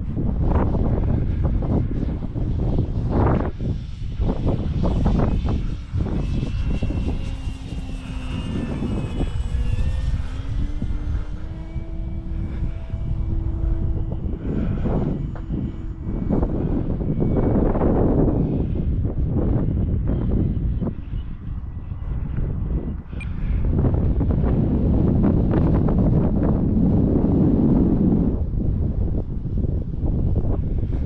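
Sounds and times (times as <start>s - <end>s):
model aeroplane motor whining: 0.0s - 31.0s
wind buffeting microphone: 0.0s - 31.0s.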